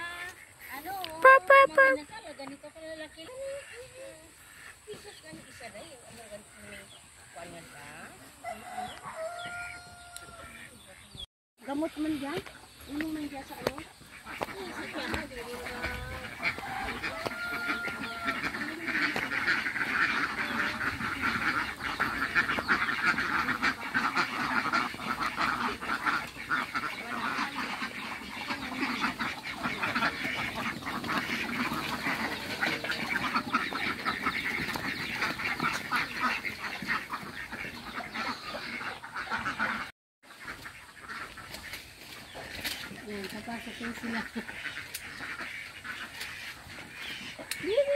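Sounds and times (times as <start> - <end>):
ducks quacking: 0.0 - 47.9.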